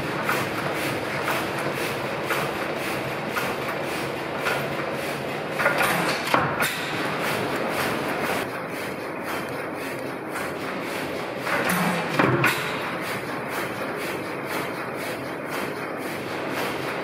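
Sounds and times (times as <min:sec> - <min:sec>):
stationary engine knocking: 0:00.0 - 0:17.0.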